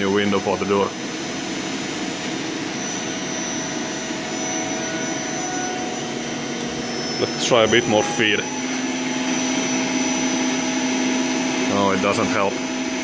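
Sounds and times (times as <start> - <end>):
lathe whirring with high whine: 0.0 - 13.0.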